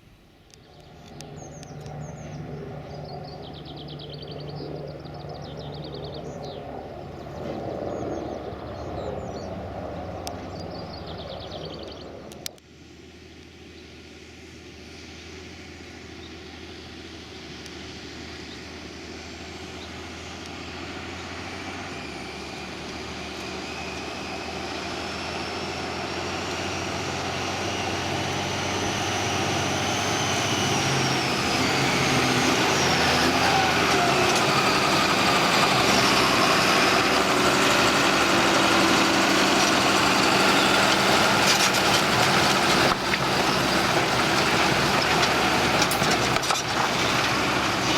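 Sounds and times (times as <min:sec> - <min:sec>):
tractor diesel engine: 0:00.0 - 0:47.9.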